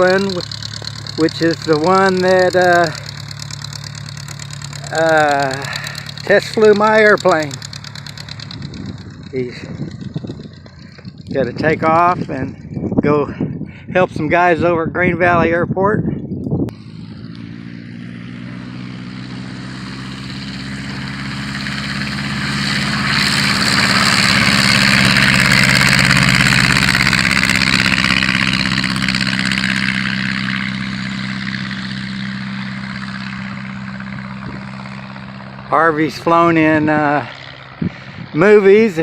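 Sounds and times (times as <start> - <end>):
propeller airplane engine: 0.0 - 39.0.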